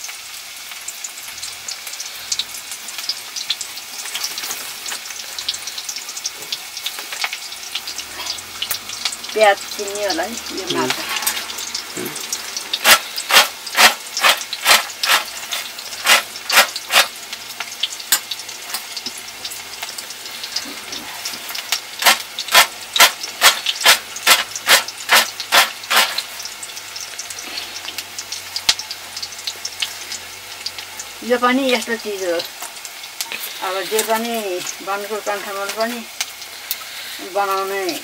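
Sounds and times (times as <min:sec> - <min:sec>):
oil sizzling in a wok: 0:00.0 - 0:38.0.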